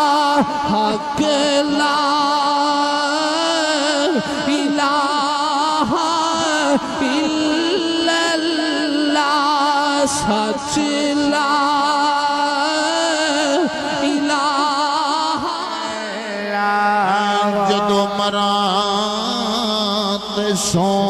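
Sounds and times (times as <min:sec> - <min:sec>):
man singing with heavy vibrato: 0:00.0 - 0:21.0.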